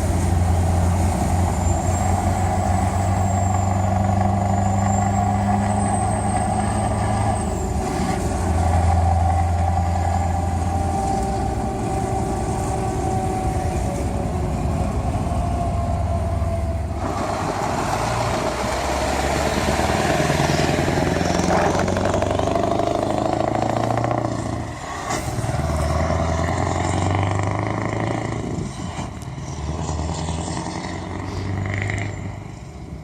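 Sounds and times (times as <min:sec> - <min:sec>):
truck engine low drone: 0:00.0 - 0:33.0.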